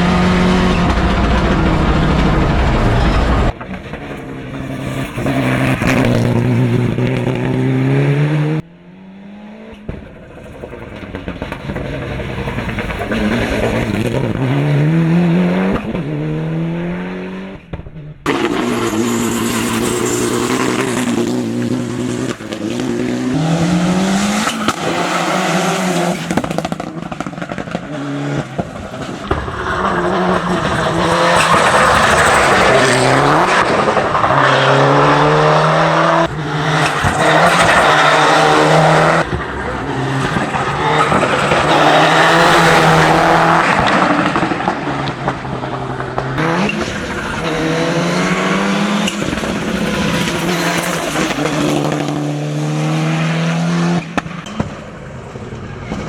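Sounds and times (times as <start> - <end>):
car engine accelerating through gears: 0.0 - 3.6, 4.6 - 54.7.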